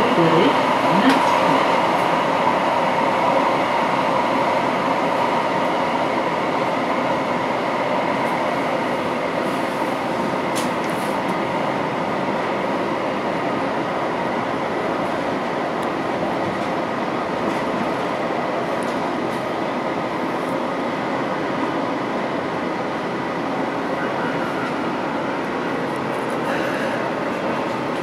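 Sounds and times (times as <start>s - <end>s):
light-rail car running on track: 0.0s - 28.0s.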